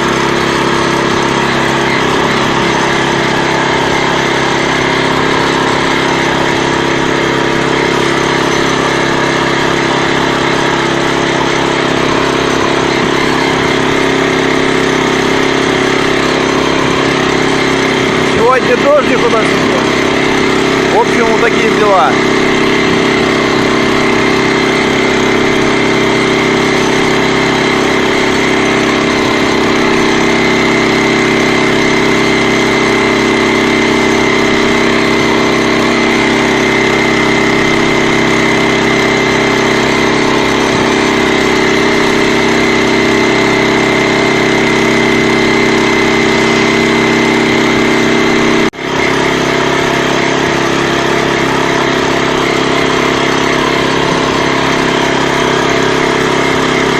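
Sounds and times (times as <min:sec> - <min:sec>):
walk-behind tractor engine running: 0:00.0 - 0:56.9.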